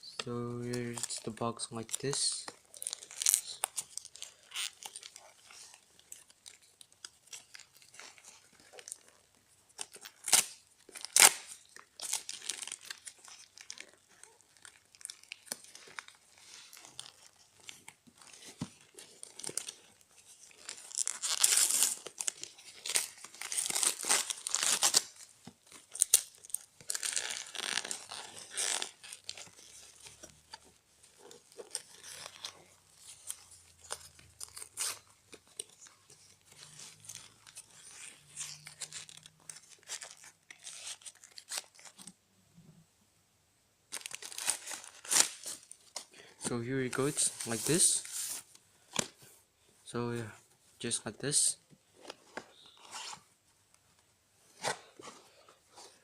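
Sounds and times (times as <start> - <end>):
packaging crinkling and tearing: 0.2 - 42.2, 43.9 - 49.2, 52.0 - 53.3.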